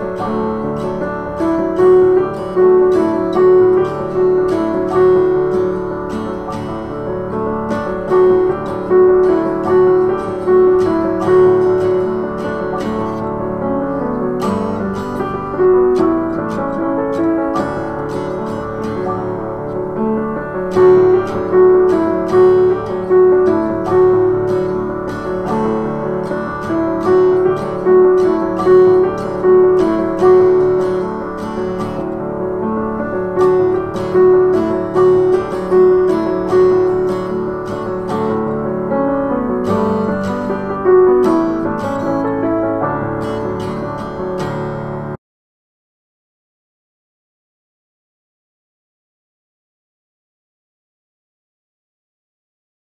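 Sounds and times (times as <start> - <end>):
acoustic guitar strumming: 0.0 - 45.2
piano: 0.0 - 45.2.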